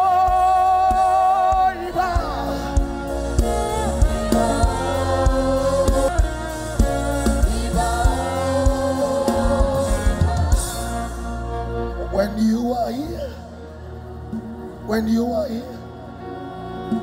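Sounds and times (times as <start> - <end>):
choir singing: 0.0 - 15.0
steady bass: 0.0 - 16.0.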